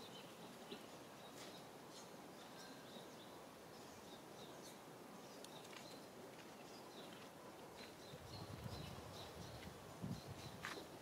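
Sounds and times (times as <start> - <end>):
faint outdoor ambience: 0.0 - 11.0
small birds chirping: 0.0 - 11.0.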